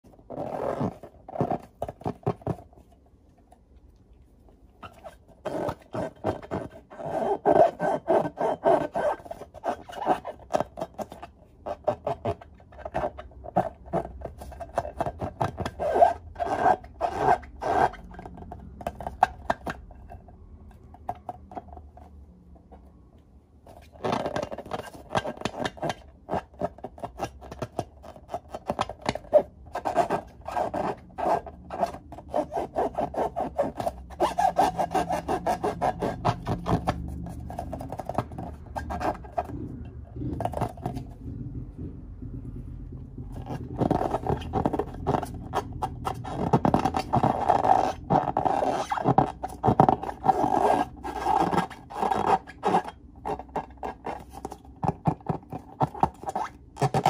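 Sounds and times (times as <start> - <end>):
hands rubbing rubber balloons: 0.0 - 3.0, 4.4 - 20.0, 23.6 - 57.0.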